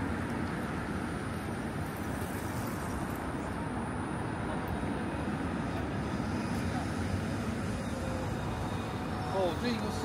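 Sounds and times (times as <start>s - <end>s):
road traffic noise: 0.0s - 10.0s
faint high whine: 0.1s - 10.0s.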